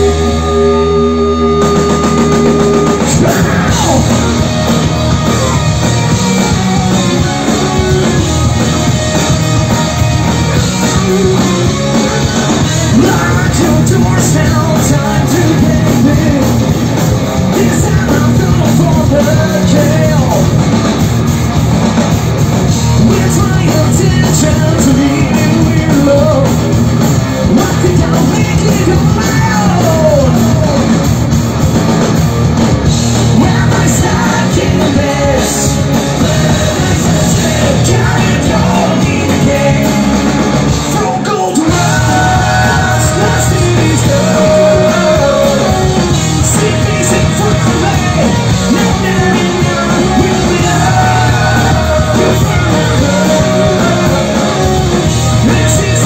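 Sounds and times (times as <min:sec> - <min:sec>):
lead vocals singing: 0:00.0 - 0:20.6, 0:22.7 - 0:31.1, 0:33.1 - 0:56.0
bass guitar: 0:00.0 - 0:56.0
distorted electric guitars: 0:00.0 - 0:56.0
drums: 0:00.0 - 0:56.0
hard rock band playing: 0:00.0 - 0:56.0.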